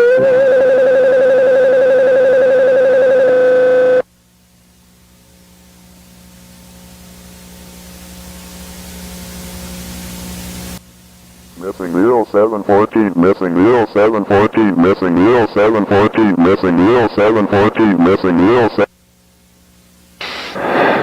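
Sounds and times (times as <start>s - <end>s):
low hum under hiss: 0.0s - 21.0s.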